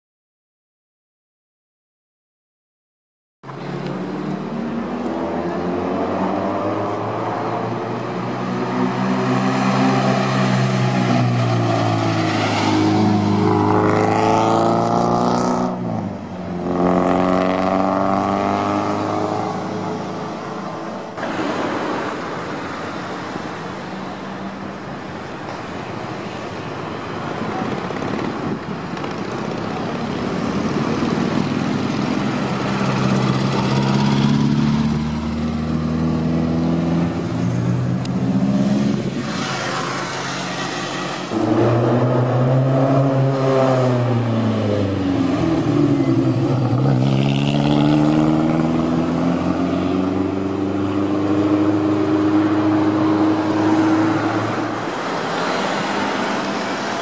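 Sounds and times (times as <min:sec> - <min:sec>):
street traffic: 0:03.4 - 0:57.0.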